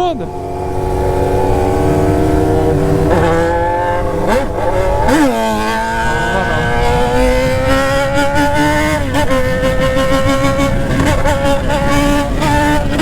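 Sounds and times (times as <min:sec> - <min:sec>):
motorcycle engine accelerating: 0:00.0 - 0:13.0
motorcycle throttle blips: 0:00.0 - 0:13.0.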